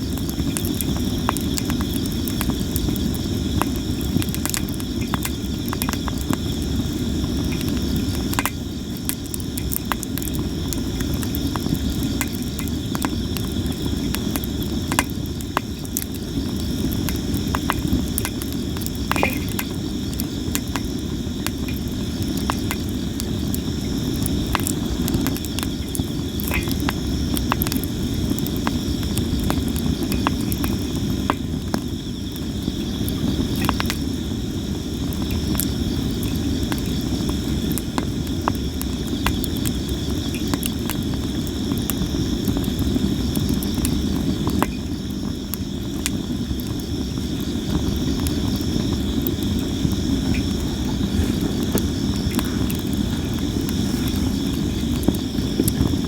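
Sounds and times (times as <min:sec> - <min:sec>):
campfire crackling and popping: 0:00.0 - 0:56.0
insects trilling: 0:00.0 - 0:56.0
low fire rumble: 0:00.0 - 0:56.0.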